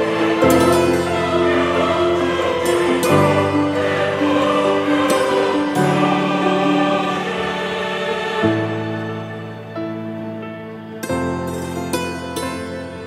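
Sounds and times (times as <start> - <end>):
choir-like sustained chords: 0.0 - 13.0.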